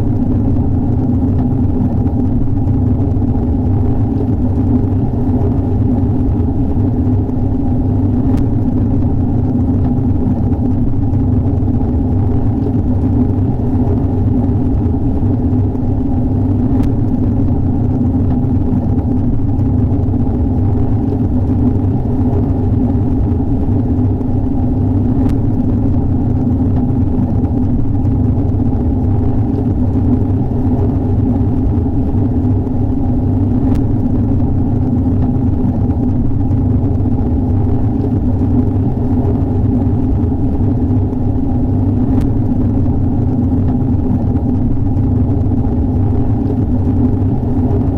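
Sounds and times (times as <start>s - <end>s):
heavy rain low rumble: 0.0s - 47.9s.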